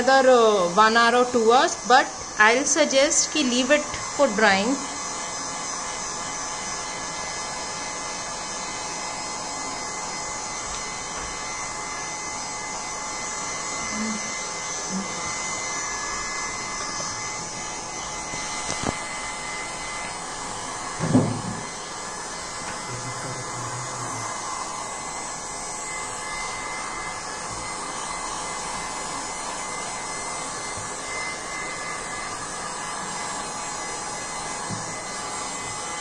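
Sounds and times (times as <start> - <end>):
heat gun blowing: 0.0 - 36.0.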